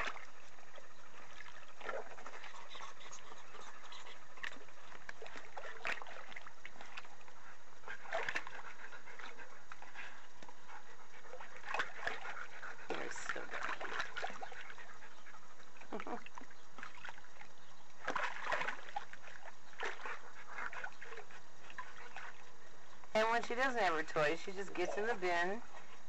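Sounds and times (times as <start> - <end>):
water sloshing and dribbling: 0.0 - 26.0.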